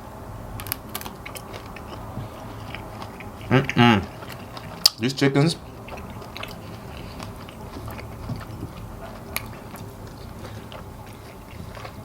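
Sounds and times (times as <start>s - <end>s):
food crunching: 0.0s - 12.0s
person chewing: 0.0s - 12.0s.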